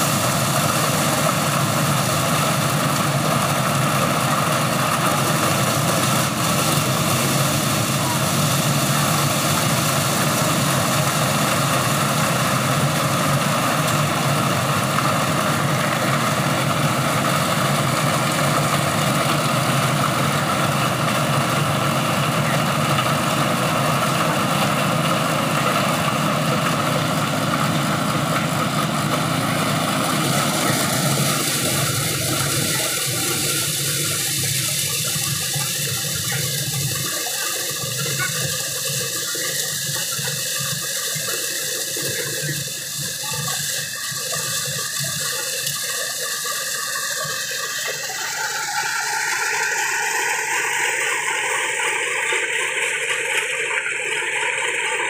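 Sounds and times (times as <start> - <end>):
motor hum: 0.0 - 55.0.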